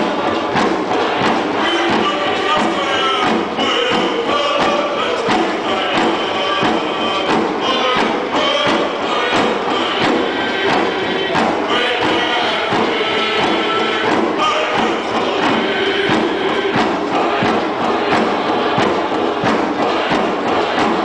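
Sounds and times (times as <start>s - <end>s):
drums beating: 0.0s - 21.0s
group of voices singing: 0.0s - 21.0s.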